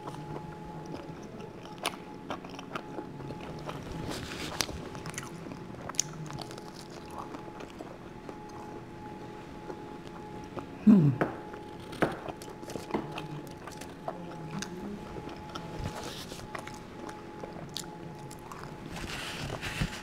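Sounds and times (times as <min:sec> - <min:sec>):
faint steady hum: 0:00.0 - 0:20.0
person chewing: 0:00.0 - 0:20.0.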